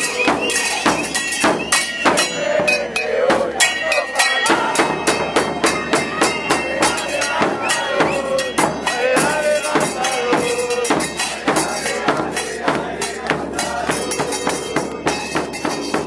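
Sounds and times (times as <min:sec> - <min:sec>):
crowd singing a chant: 0:00.0 - 0:16.0
fast drumming: 0:00.0 - 0:16.0.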